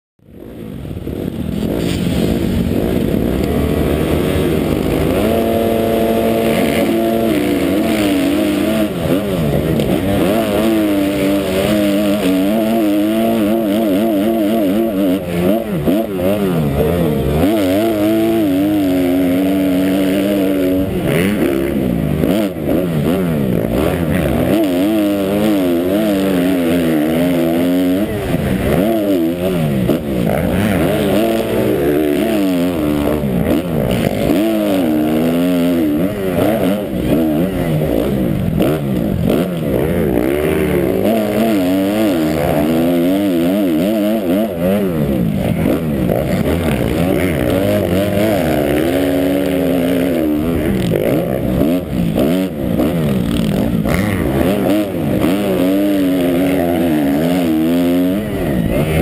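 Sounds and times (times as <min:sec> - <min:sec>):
motocross bike engine revving: 0:00.2 - 0:59.0.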